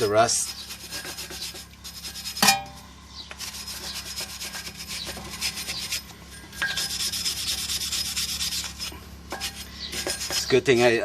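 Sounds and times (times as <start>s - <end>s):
abrasive scrubbing brake rotor: 0.0s - 2.7s, 3.3s - 11.0s.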